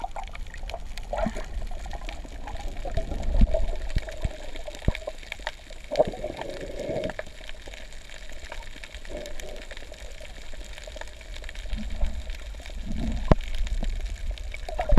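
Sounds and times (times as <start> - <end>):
bubbly gurgles: 0.0 - 14.9
underwater rumble of moving water: 0.0 - 14.9.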